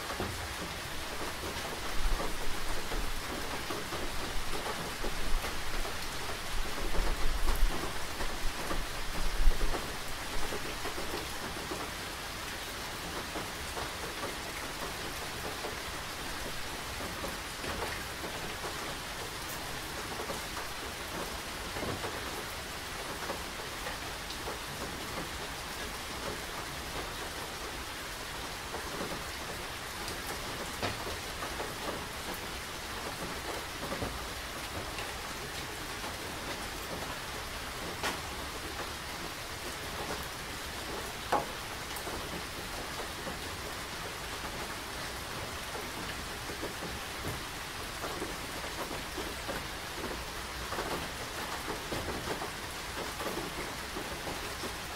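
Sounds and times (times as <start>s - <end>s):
steady rain hissing: 0.0s - 54.9s.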